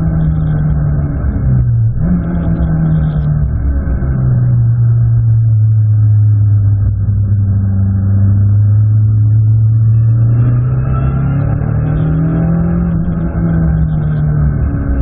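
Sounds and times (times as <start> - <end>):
race car engine droning: 0.0 - 15.0.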